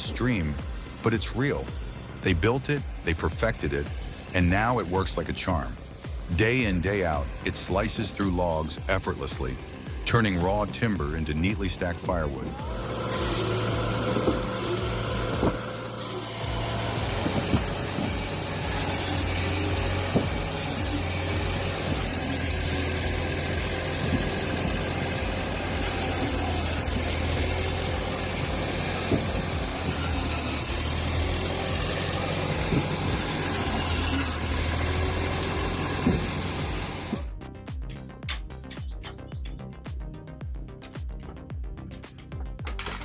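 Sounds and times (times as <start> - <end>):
machine engine running: 0.1 - 37.4.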